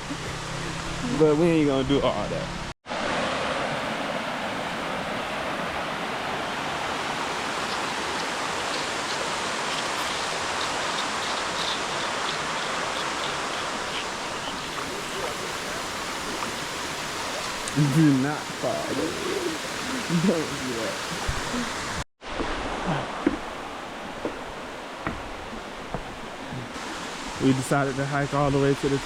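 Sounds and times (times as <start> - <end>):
waterfall rushing: 2.9 - 29.0.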